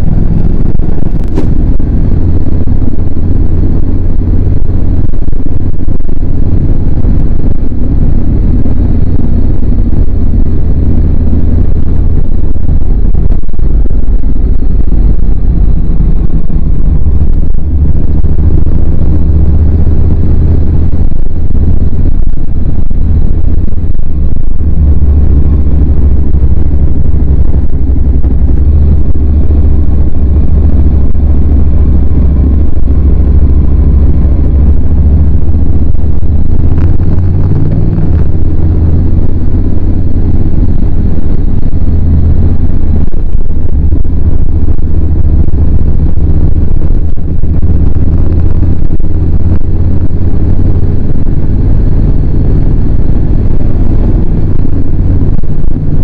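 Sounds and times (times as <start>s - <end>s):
motorcycle engine drone: 0.0s - 56.0s.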